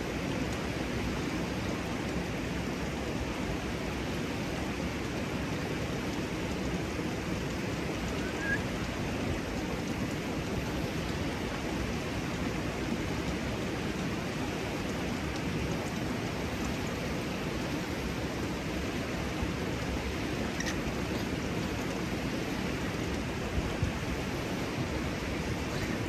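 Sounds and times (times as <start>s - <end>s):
water spilling over a cascade: 0.0s - 26.0s.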